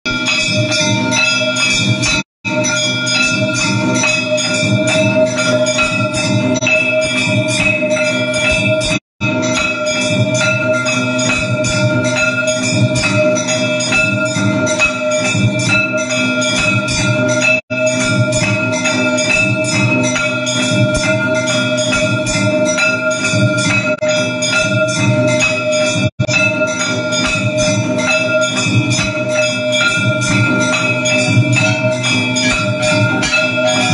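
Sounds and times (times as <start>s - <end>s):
rattling percussion: 0.1s - 33.9s
temple bells ringing fast: 0.1s - 33.9s.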